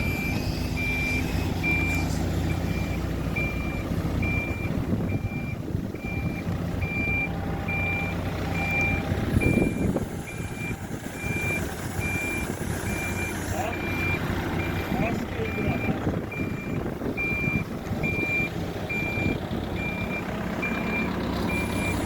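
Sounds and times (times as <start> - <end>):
diesel engine running: 0.0 - 22.0
reversing alarm beeping: 0.0 - 22.0.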